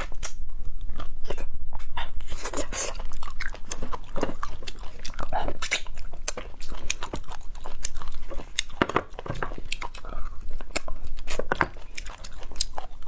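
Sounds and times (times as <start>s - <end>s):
chewing and biting: 0.0s - 13.0s.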